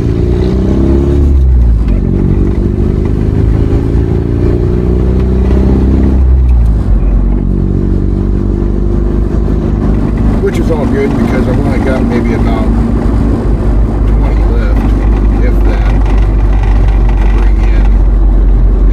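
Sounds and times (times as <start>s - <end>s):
vehicle engine accelerating: 0.0s - 18.9s.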